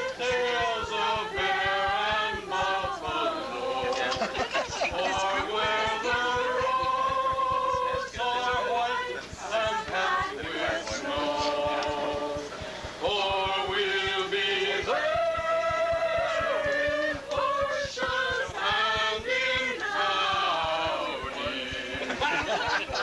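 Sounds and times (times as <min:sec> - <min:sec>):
group singing together: 0:00.0 - 0:23.0.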